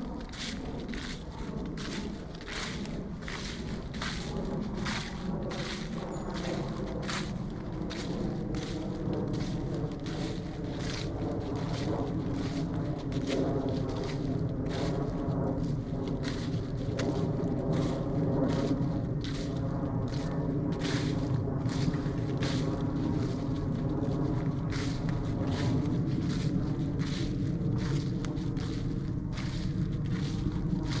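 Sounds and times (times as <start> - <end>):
airplane drone overhead: 0.0 - 31.0
footsteps crunching dry leaves: 0.0 - 31.0.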